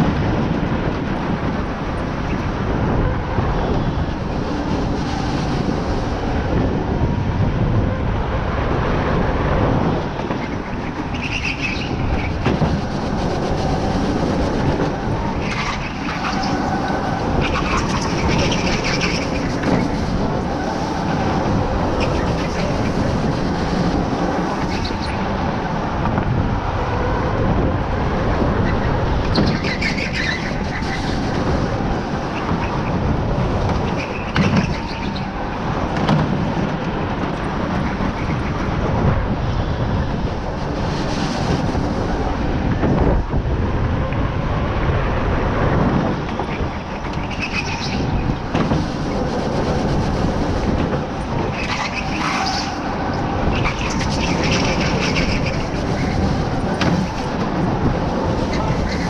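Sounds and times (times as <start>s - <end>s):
go-kart rumble and rattle: 0.0s - 59.0s.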